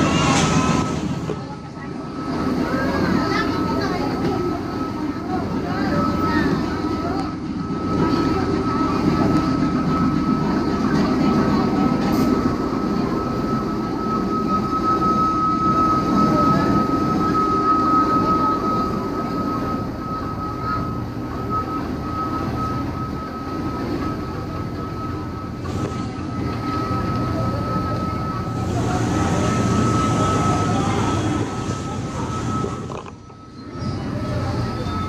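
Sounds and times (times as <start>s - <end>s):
steady high whine: 0.0s - 35.0s
train rumble from inside coach: 0.0s - 35.0s.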